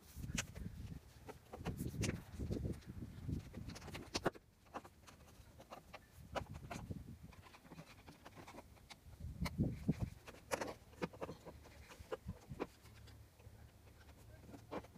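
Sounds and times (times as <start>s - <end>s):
rubber seal rubbing: 0.2s - 14.9s.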